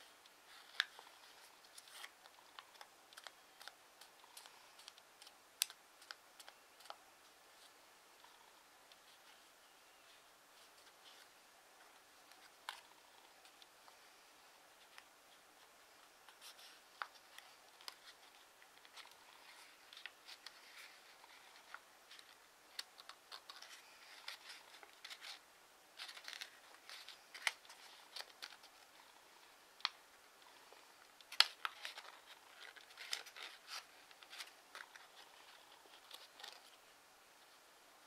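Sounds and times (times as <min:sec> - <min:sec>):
paper rustling and crinkling: 0:00.0 - 0:14.1, 0:14.8 - 0:25.4, 0:26.0 - 0:29.2, 0:29.8 - 0:36.9
faint paper crackles: 0:00.0 - 0:37.6.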